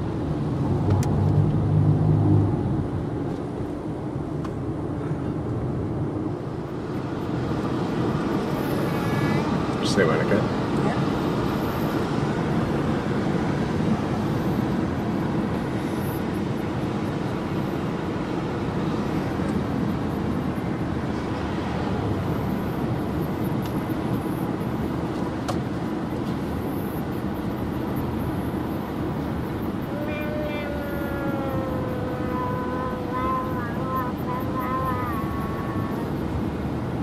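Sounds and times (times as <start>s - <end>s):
car road and engine noise: 0.0s - 37.0s.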